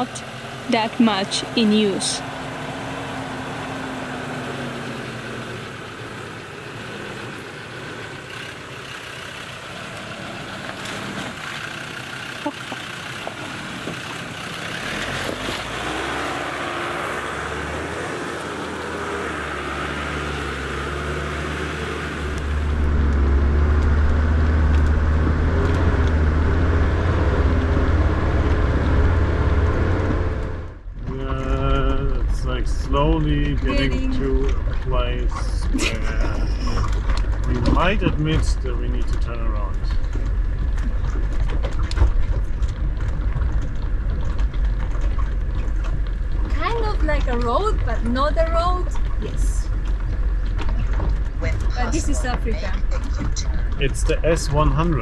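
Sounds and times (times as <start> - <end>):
engine labouring up dirt track: 0.0 - 55.0
engine low rumble: 0.0 - 55.0.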